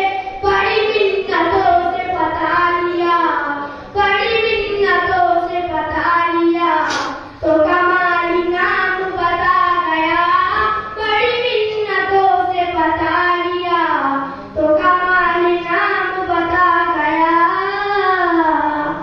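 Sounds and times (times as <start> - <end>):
boy singing devotional poem: 0.0 - 19.0.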